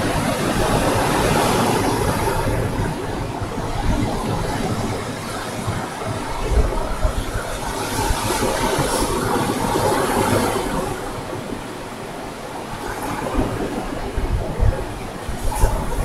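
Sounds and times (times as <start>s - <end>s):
ocean surf breaking on beach: 0.0s - 16.0s
wind rumbling on microphone: 0.0s - 16.0s.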